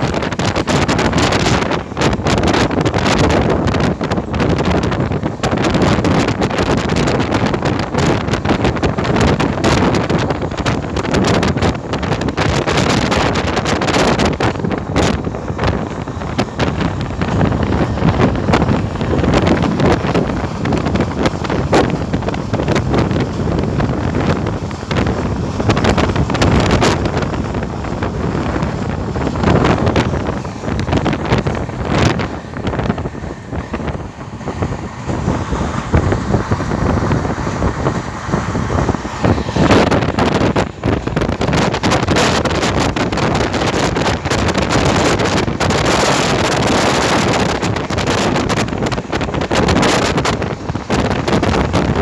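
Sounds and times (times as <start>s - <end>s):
wheels rumbling on rails: 0.0s - 52.0s
wind rushing over microphone: 0.0s - 52.0s.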